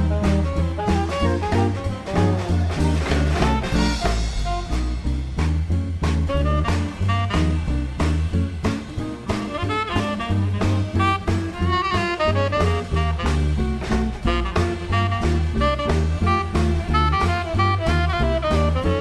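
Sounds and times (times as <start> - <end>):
drums keeping time: 0.0 - 19.0
saxophones and brass melody: 0.0 - 19.0
upright bass walking: 0.0 - 19.0.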